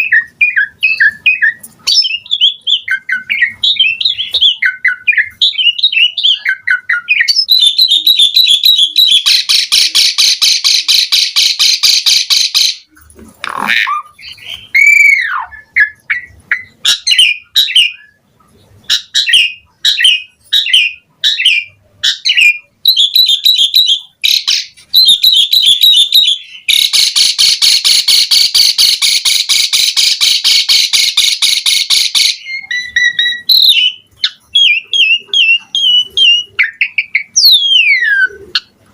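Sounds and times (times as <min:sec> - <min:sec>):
starling singing: 0:00.0 - 0:38.8.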